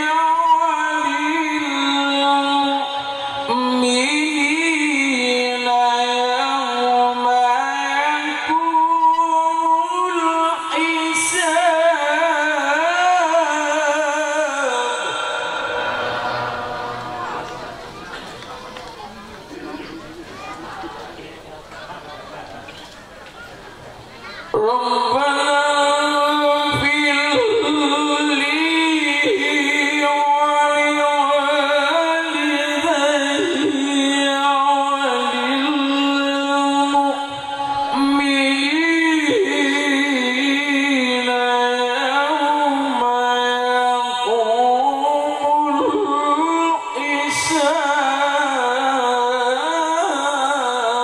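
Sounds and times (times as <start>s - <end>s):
man reciting melodically: 0.0s - 22.6s, 24.6s - 51.0s.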